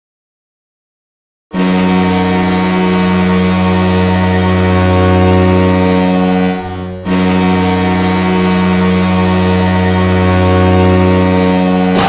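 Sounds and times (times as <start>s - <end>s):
low goal horn blast: 1.5s - 12.0s.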